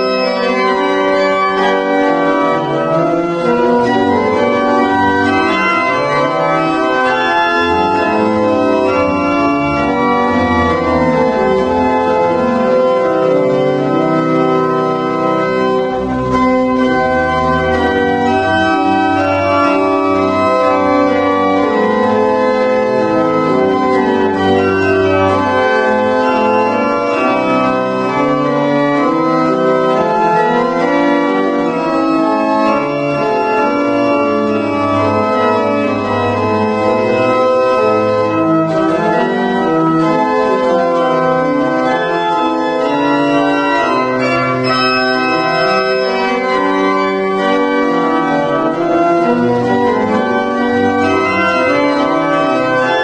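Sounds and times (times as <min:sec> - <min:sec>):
organ playing a hymn: 0:00.0 - 0:53.0.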